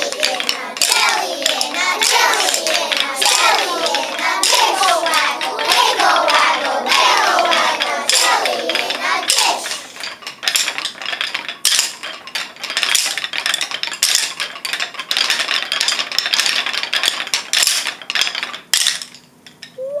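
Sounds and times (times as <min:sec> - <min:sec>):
wooden rhythm sticks clicking: 0:00.0 - 0:19.8.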